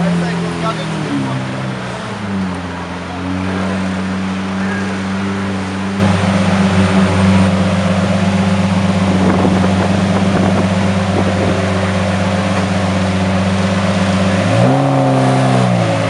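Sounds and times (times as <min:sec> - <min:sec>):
sports car engine idling: 0:00.0 - 0:16.0.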